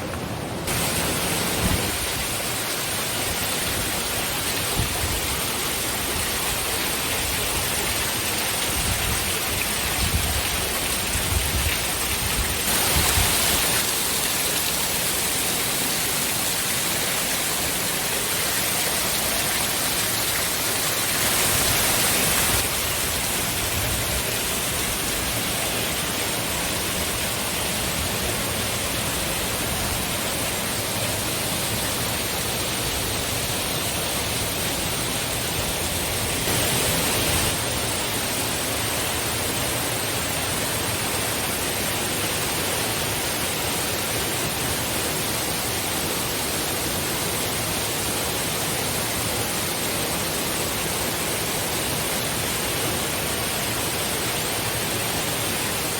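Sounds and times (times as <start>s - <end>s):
fast-flowing water rushing: 0.0s - 55.9s.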